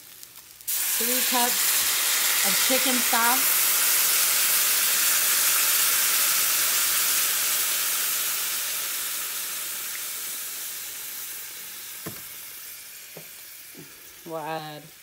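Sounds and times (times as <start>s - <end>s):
hot pan sizzling and hissing: 0.0s - 15.0s
broth pouring into pan: 0.7s - 14.3s.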